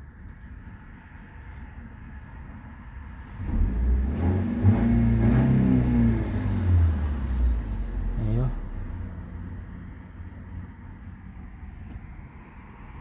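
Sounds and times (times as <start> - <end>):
car engine idling and revving: 1.4 - 13.0.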